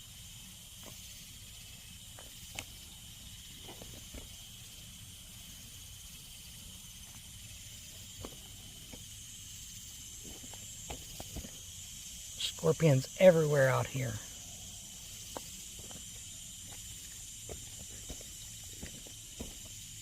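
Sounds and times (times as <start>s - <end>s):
insect chorus trilling: 0.0s - 20.0s.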